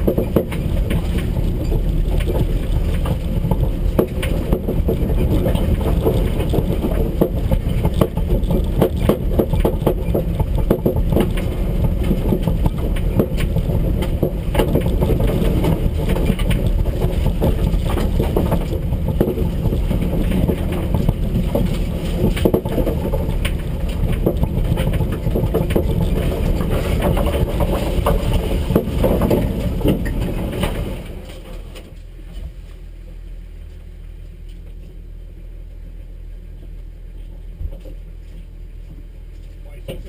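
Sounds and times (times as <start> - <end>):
car engine idling: 0.0 - 40.0
low hum: 0.0 - 40.0.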